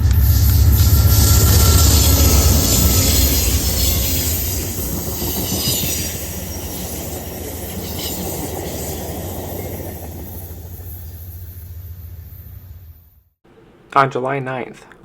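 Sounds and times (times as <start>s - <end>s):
train cars hissing: 0.0s - 13.1s
diesel train rumbling: 0.0s - 13.2s.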